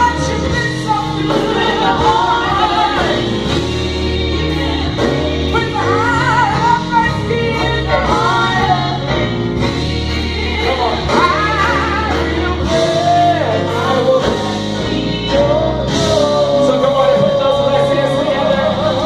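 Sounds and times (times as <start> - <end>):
bass and guitar accompaniment: 0.0 - 19.0
person singing with vibrato: 0.0 - 19.0.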